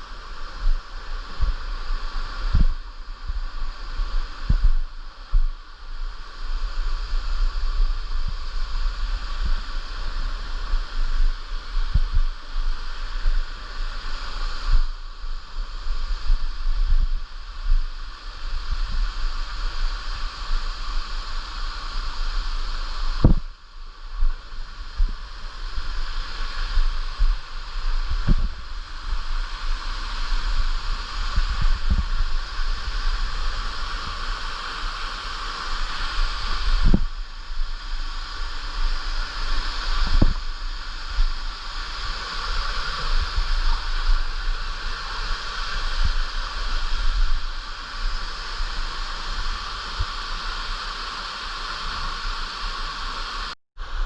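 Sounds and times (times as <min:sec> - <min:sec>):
wind buffeting microphone: 0:00.0 - 0:50.2
stream and waterfall rushing: 0:00.0 - 0:54.0.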